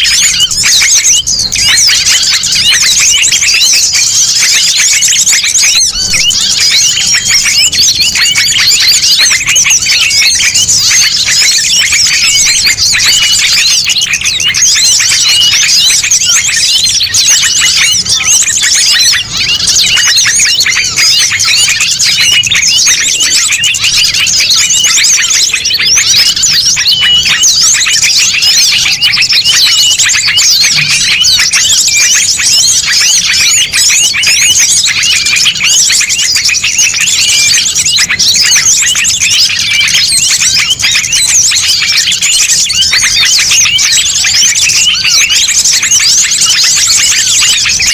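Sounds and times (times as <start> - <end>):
small songbirds chirping: 0.0 - 47.9.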